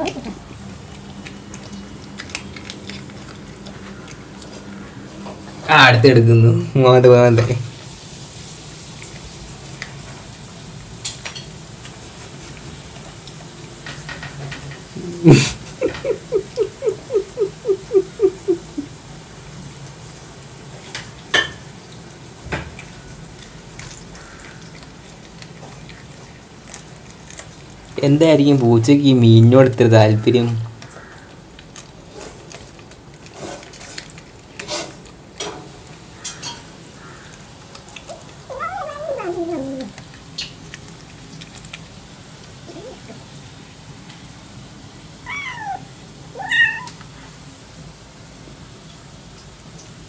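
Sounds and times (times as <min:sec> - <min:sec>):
kitten eating sounds: 0:00.0 - 0:50.0.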